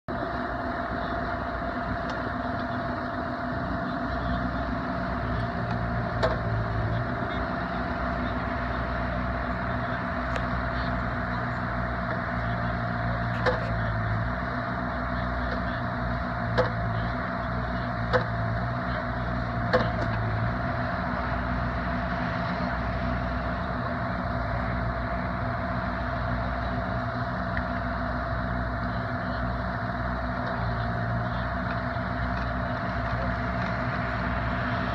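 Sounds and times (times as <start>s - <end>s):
excavator diesel engines: 0.0s - 34.9s.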